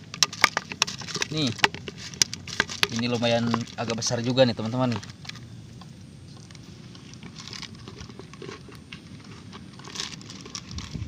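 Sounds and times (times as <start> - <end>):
low steady background noise: 0.0 - 11.0.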